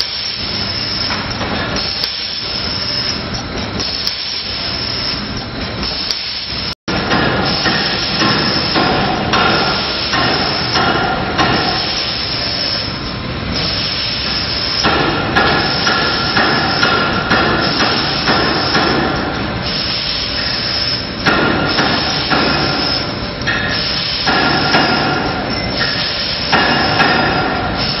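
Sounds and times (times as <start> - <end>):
machine hissing: 0.0 - 28.0
machine whine: 0.0 - 28.0.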